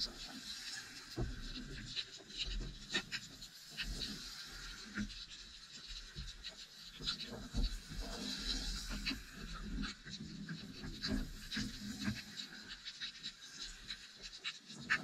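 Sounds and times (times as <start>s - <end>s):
small underwater clicks and crackles: 0.0s - 15.0s.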